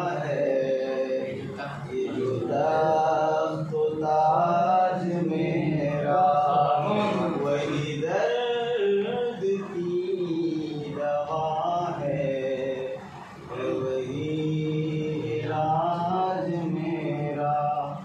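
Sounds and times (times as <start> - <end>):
man chanting verse: 0.0 - 18.0.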